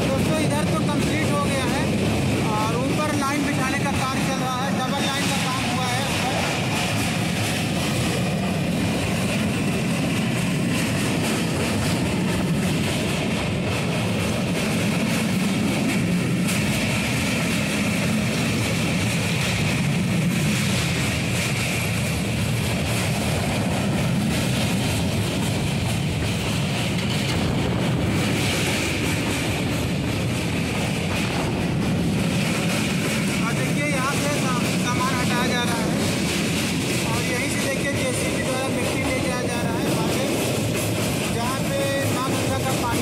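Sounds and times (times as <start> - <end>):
train rumbling over bridge: 0.0 - 43.0.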